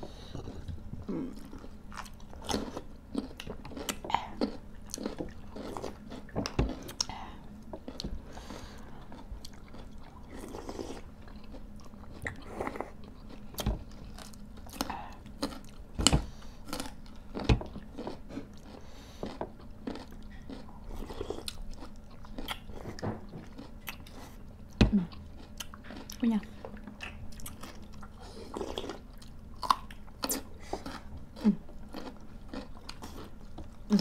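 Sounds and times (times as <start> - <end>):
people chewing and crunching food: 0.0 - 34.0.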